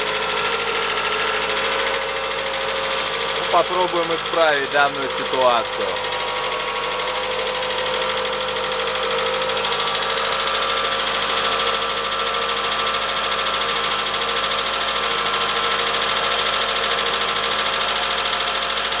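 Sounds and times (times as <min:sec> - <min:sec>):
engine running with ticking clatter: 0:00.0 - 0:19.0.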